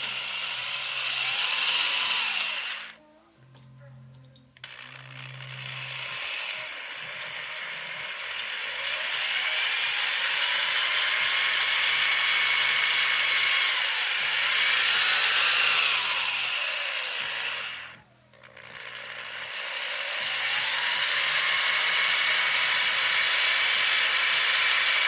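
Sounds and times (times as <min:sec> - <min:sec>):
power tool grinding steel: 0:00.0 - 0:03.0, 0:04.6 - 0:25.0.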